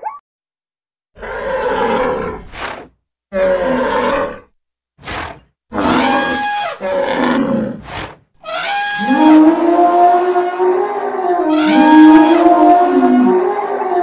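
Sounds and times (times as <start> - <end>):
animal roars and bellows: 1.2 - 14.0.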